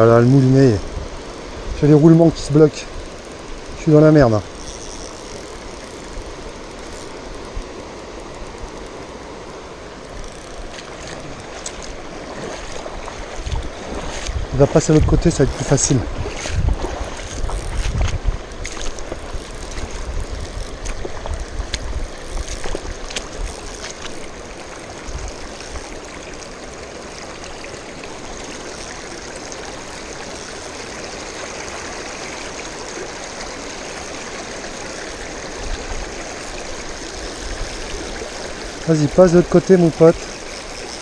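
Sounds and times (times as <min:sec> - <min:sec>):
river water over stones: 0:00.0 - 0:41.0.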